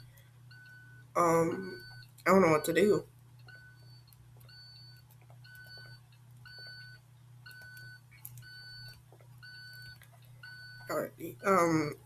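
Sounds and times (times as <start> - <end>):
steady low hum: 0.0 - 12.0
two-tone warning alarm beeps: 0.0 - 12.0.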